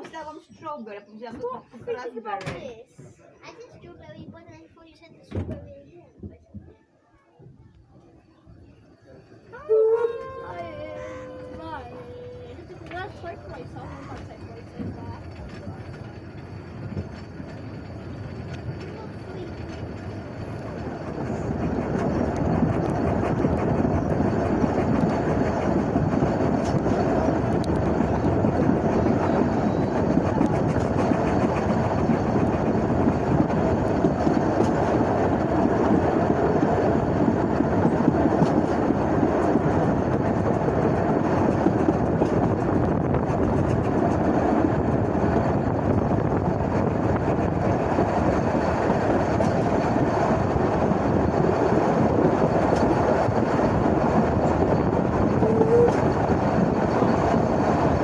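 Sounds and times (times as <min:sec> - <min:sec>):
train wheels rumbling and rattling: 0:08.8 - 0:58.0.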